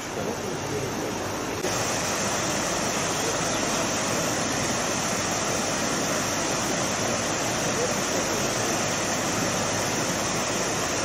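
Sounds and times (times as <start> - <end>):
rushing water of a stream: 0.0 - 11.0.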